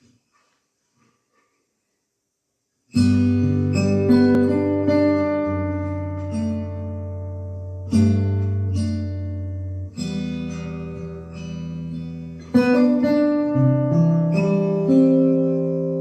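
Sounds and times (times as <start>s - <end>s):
acoustic guitar slow piece: 2.9s - 16.0s.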